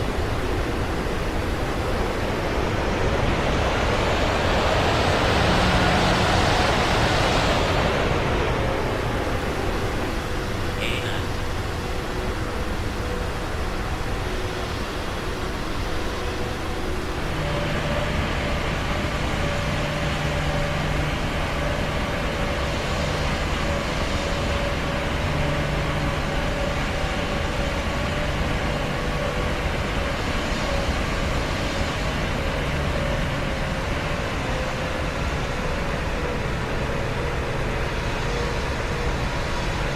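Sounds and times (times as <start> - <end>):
airplane cabin rumble and hiss: 0.0 - 39.9.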